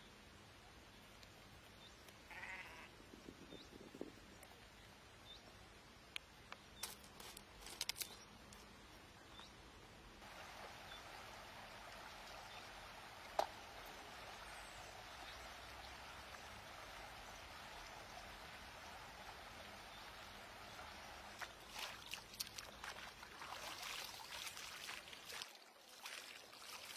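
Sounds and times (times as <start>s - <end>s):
shallow river water running: 0.0s - 26.9s.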